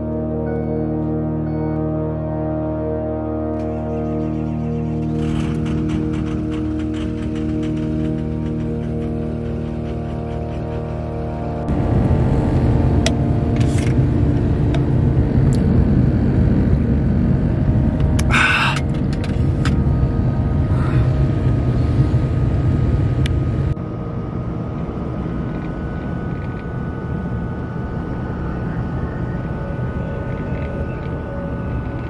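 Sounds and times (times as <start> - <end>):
vehicle engine rumble inside cab: 3.2 - 32.0.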